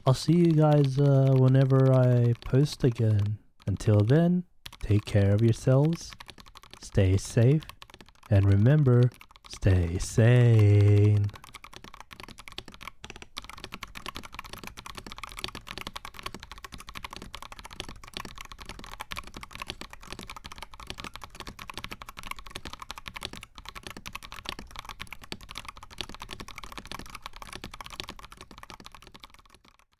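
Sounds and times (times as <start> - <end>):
mechanical keyboard typing: 0.0 - 29.9.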